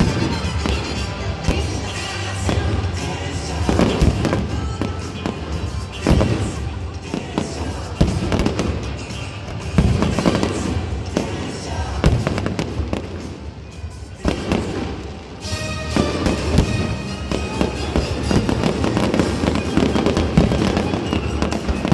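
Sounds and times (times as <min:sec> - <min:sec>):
fireworks booming and crackling: 0:00.0 - 0:21.9.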